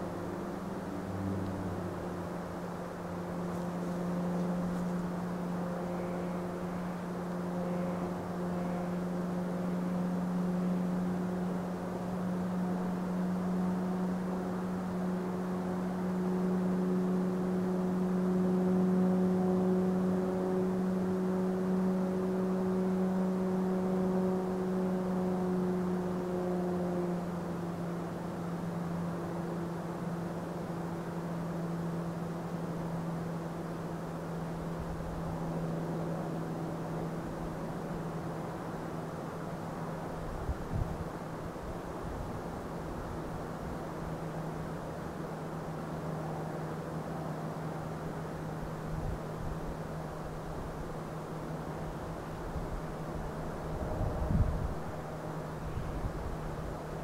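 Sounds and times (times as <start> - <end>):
train electric hum: 0.0 - 57.0.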